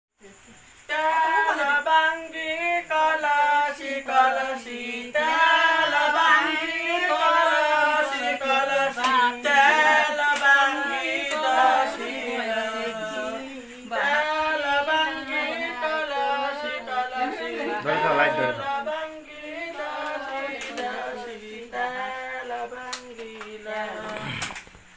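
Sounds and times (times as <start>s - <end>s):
women singing together: 0.5s - 24.9s.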